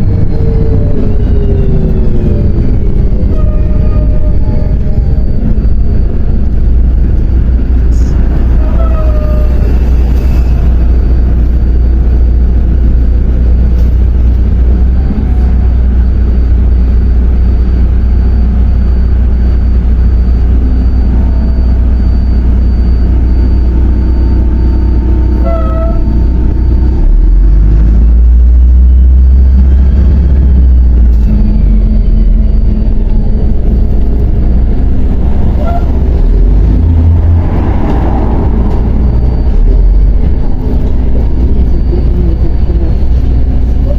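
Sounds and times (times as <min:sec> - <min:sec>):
bus engine rumble: 0:00.0 - 0:43.9.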